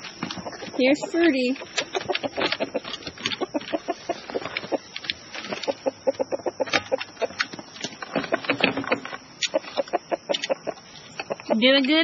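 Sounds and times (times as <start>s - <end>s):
chicken clucking: 0.3s - 12.0s.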